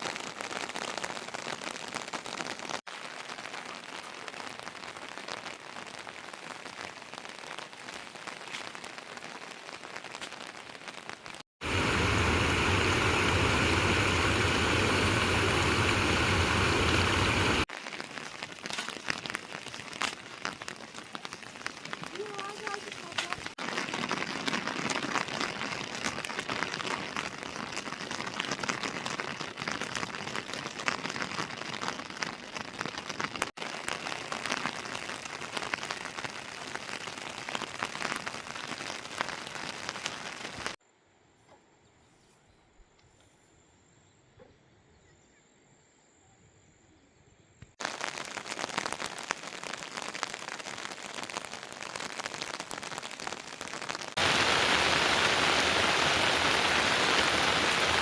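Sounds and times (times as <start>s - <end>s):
heavy rain falling: 0.0s - 40.8s, 47.8s - 58.0s.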